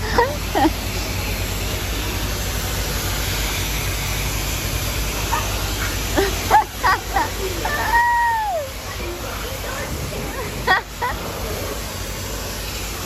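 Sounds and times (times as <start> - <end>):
pressure washer spraying water: 0.0 - 13.0.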